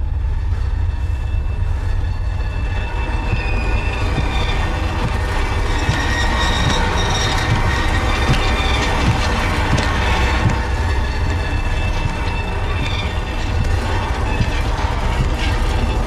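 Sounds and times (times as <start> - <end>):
deep steady rumble: 0.0 - 16.0
shrill metallic squealing tones: 2.1 - 15.2.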